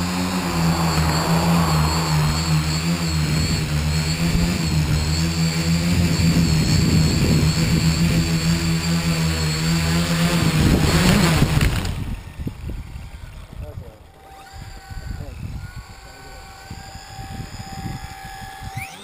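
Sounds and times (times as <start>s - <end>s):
drone motors and propellers: 0.0s - 19.0s.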